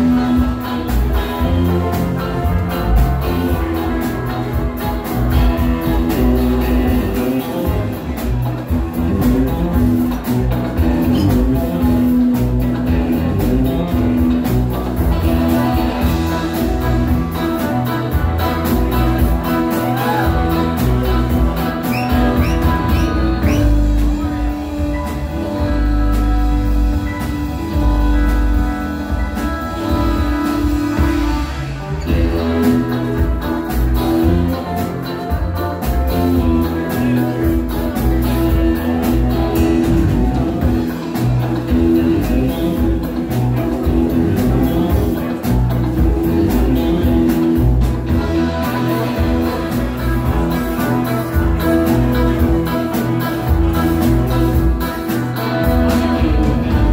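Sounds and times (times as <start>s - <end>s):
rock band playing live: 0.0s - 56.9s.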